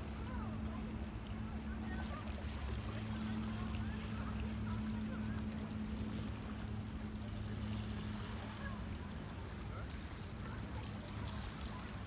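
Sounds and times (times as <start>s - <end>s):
distant boat engine humming: 0.0s - 12.0s
water lapping at rocks: 0.0s - 12.0s.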